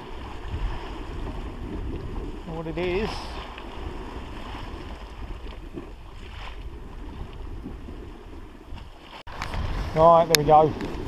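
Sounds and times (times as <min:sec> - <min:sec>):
waves washing against sea wall: 0:00.0 - 0:11.0
wind buffeting microphone: 0:00.0 - 0:11.0.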